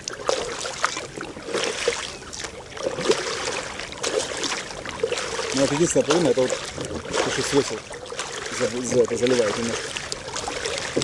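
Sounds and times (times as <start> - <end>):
paddle splashing in water: 0.0 - 11.0
water dripping off paddle: 0.0 - 11.0.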